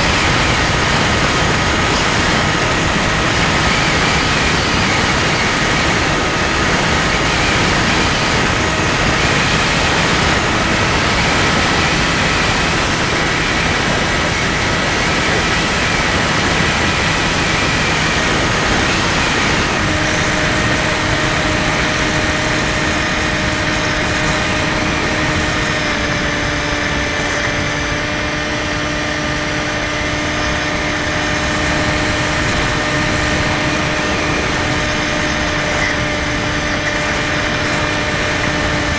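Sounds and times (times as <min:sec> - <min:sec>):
model plane motor whine: 0:00.0 - 0:38.9
wind rush: 0:00.0 - 0:38.9.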